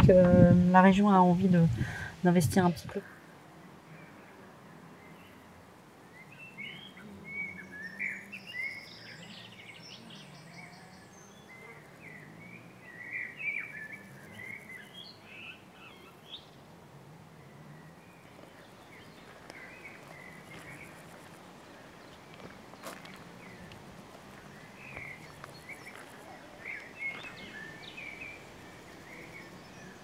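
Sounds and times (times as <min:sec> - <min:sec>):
faint background noise: 0:00.0 - 0:30.0
wild birds singing: 0:00.0 - 0:30.0.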